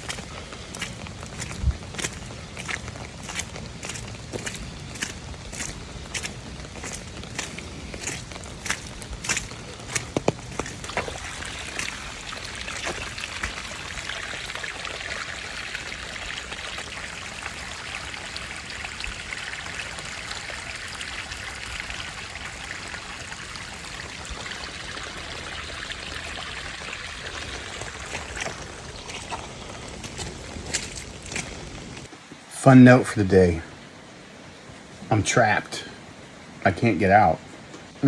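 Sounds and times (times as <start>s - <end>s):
running water trickling: 0.0s - 32.4s.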